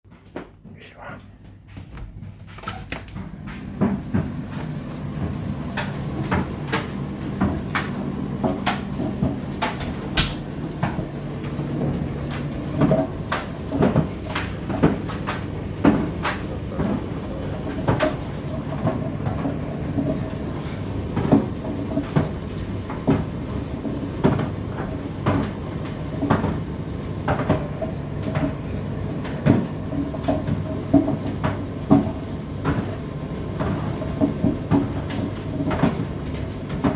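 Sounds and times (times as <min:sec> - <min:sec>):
tumble dryer motor and drum hum: 0:00.1 - 0:36.9.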